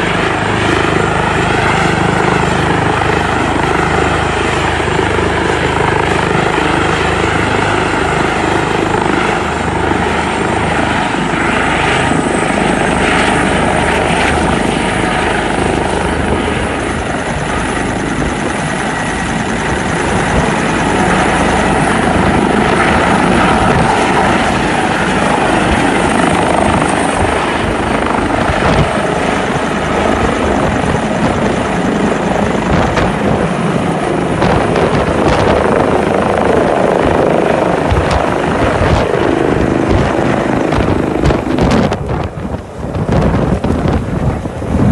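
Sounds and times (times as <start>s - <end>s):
helicopter rotor and engine roar: 0.0s - 44.9s
high turbine whine: 0.0s - 44.9s.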